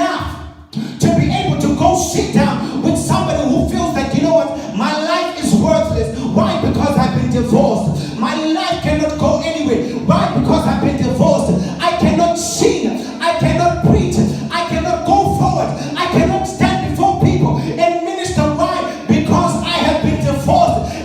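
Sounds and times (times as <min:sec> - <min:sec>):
person singing: 0:00.0 - 0:21.0.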